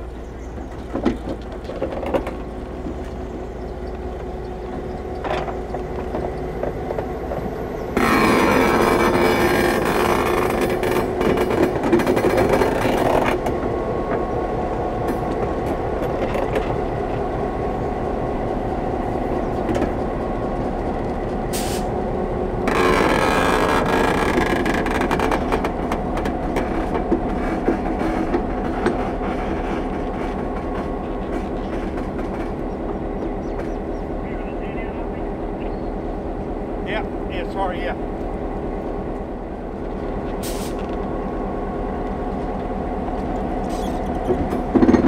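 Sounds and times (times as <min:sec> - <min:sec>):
diesel locomotive running: 0:00.0 - 0:45.0
train wheels clanking over rails: 0:00.0 - 0:45.0.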